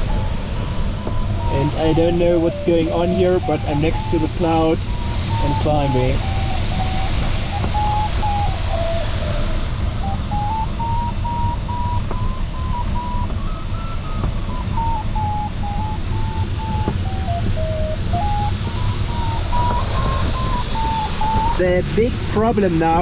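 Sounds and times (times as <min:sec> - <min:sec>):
variometer tone changing pitch: 0:00.0 - 0:22.4
air rushing around cockpit: 0:00.0 - 0:23.0.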